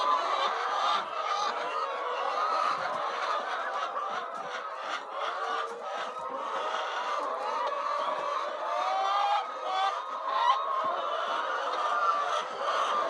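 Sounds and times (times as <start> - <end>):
chickens peeping and clucking: 0.0 - 13.0.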